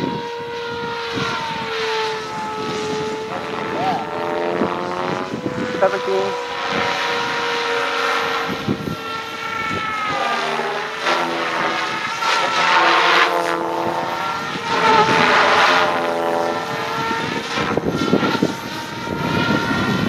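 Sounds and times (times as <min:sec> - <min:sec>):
rc helicopter rotor and motor whine: 0:00.0 - 0:20.0.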